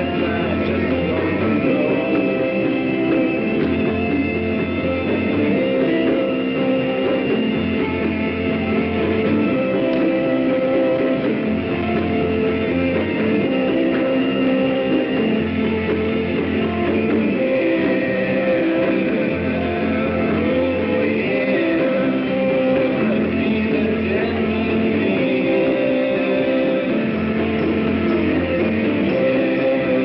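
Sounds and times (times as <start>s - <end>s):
bass line: 0.0s - 30.0s
instrumental rock music: 0.0s - 30.0s.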